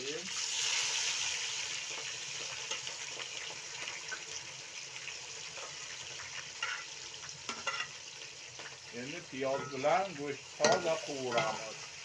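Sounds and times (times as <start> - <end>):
meat and onions sizzling in oil: 0.0 - 12.0.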